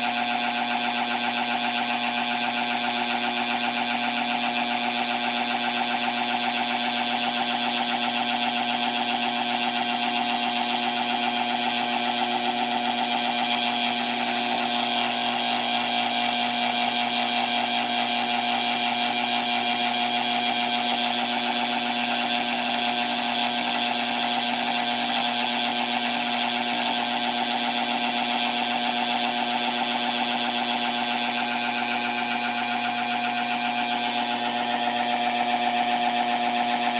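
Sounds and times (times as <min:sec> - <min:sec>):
heat sealer mechanical hum: 0:00.0 - 0:36.9.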